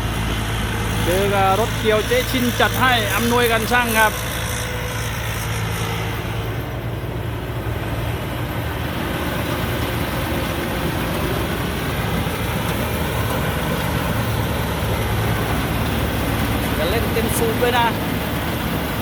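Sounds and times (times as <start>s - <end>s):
low diesel engine drone: 0.0s - 19.0s.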